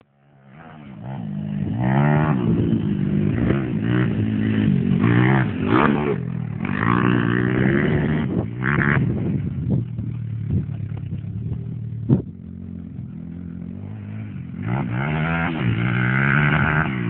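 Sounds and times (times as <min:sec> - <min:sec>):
pit bike engine revving: 0:00.1 - 0:17.0.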